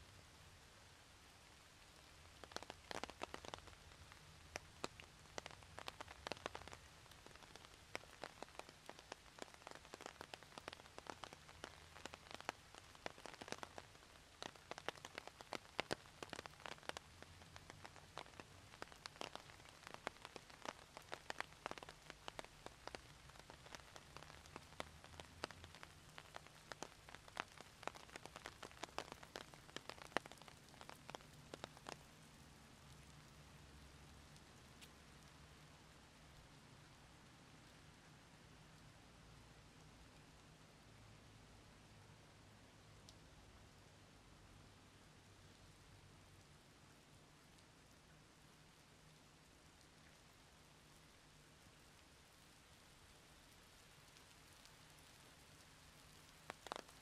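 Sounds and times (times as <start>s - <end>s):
rain hiss: 0.0s - 57.0s
raindrops ticking: 0.0s - 57.0s.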